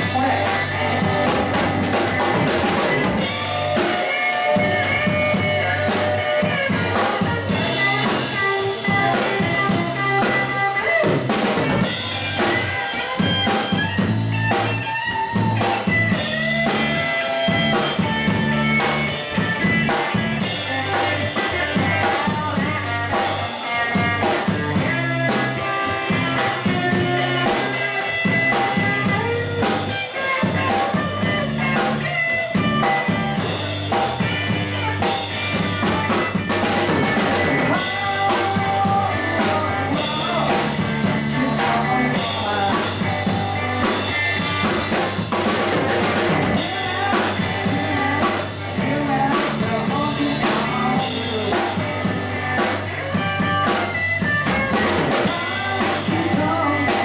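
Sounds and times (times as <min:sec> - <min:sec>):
live rock band: 0:00.0 - 0:57.0
steady drumming: 0:00.0 - 0:57.0.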